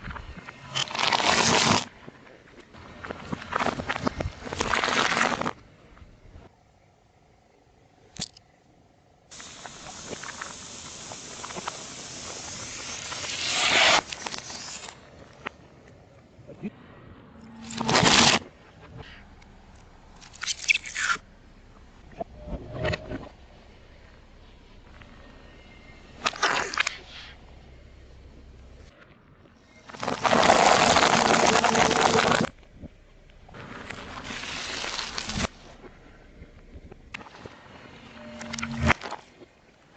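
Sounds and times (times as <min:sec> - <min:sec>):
small crackles: 0:00.0 - 0:06.5, 0:09.3 - 0:16.7, 0:17.4 - 0:39.9.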